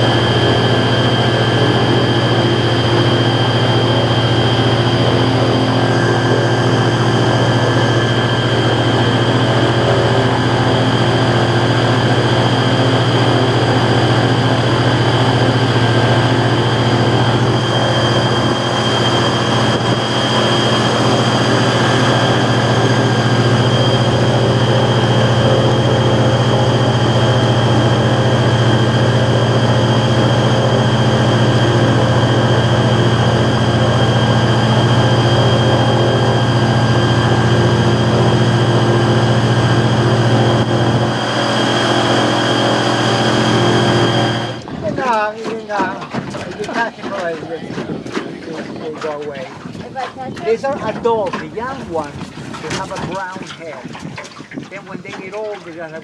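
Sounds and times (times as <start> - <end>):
high whining tones: 0.0 - 46.5
boat engine droning: 0.0 - 56.0.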